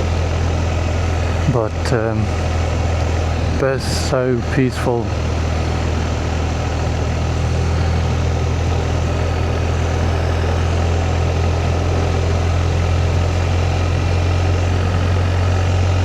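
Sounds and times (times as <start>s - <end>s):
constant rush of noise: 0.0s - 16.0s
motorcycle engine running: 0.0s - 16.0s.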